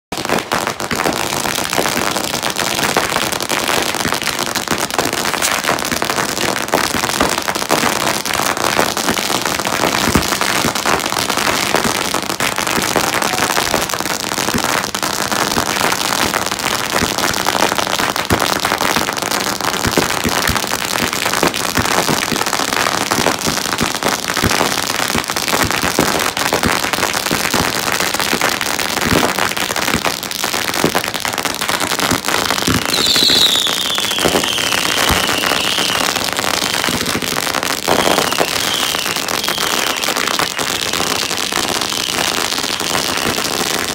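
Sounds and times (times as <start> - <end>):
firecrackers crackling and popping: 0.1 - 43.9.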